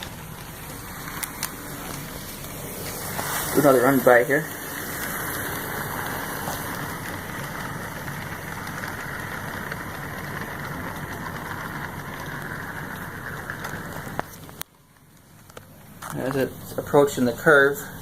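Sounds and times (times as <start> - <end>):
small clicks of wheels: 0.0 - 16.8
model train motor whirring and rattling: 0.0 - 18.0.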